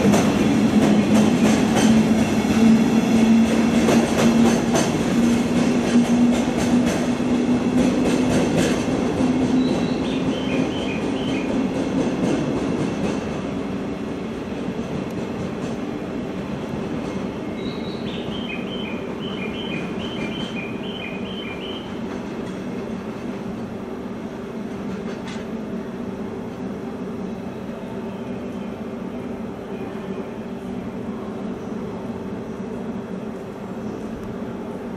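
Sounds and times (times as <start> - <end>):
train wheels rumbling: 0.0 - 34.9.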